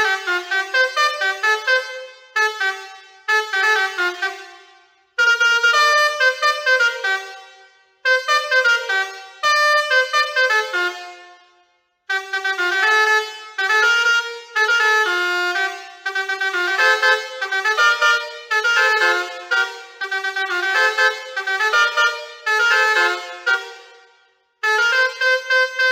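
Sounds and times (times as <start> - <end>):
musical air horn playing tune: 0.0 - 25.9.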